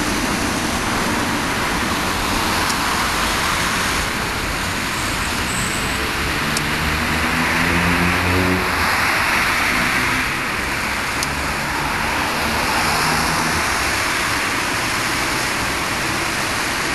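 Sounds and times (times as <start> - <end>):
tram rolling noise: 0.0 - 16.9.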